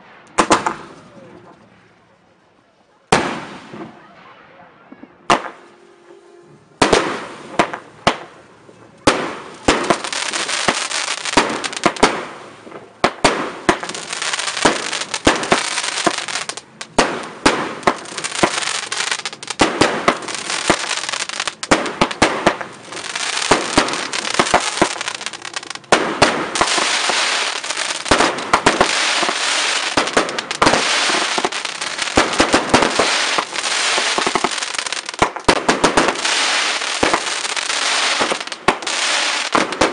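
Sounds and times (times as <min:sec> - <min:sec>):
fireworks bangs and crackling: 0:00.0 - 0:05.8, 0:06.7 - 0:39.9.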